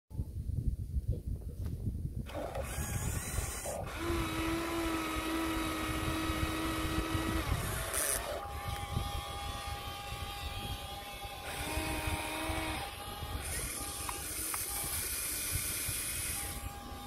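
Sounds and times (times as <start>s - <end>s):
electric motor whining: 2.3s - 17.0s.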